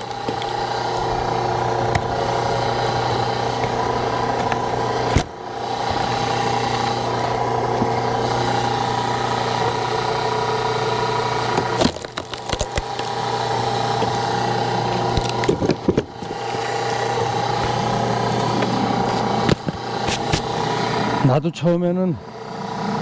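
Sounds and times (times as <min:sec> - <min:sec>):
wood splitting cracks: 0:00.0 - 0:21.2
log splitter engine running: 0:00.0 - 0:23.0.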